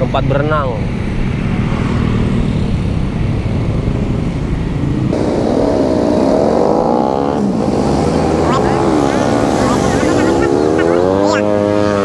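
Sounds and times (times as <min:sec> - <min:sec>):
motorcycle passing: 0:00.9 - 0:12.0.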